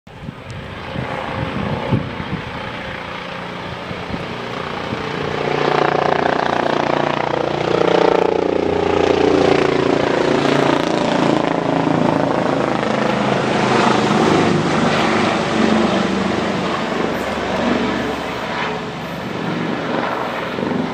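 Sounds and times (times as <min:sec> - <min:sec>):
helicopter engine and rotor: 0:00.1 - 0:20.9.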